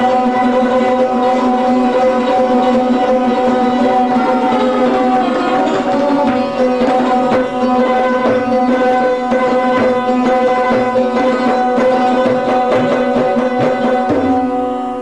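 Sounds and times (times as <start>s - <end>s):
sarod playing: 0.0s - 15.0s
tabla drumming: 0.0s - 15.0s
tanpura drone: 0.0s - 15.0s.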